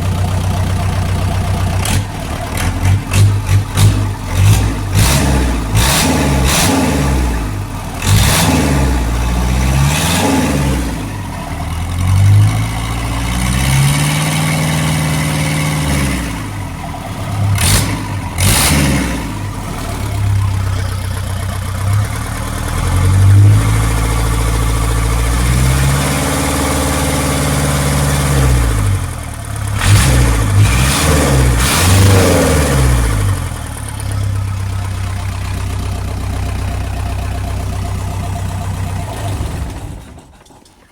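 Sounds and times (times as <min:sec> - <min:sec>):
diesel engine revving: 0:00.0 - 0:40.7.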